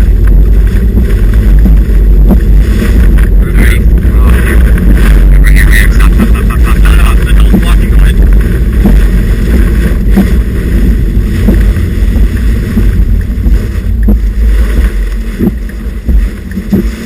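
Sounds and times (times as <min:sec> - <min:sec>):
wind gusts buffeting microphone: 0:00.0 - 0:17.0.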